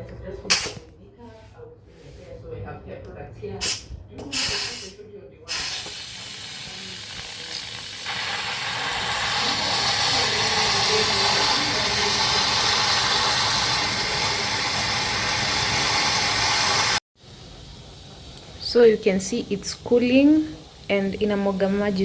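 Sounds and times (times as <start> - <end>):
pressure cooker steam hissing: 0.5 - 0.8, 3.6 - 22.0.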